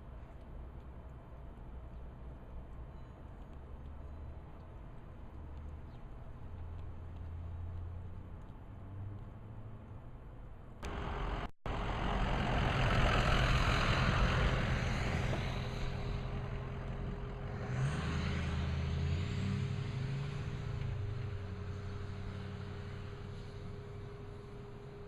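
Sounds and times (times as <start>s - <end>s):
vehicle engine and tyre noise: 0.0s - 25.0s.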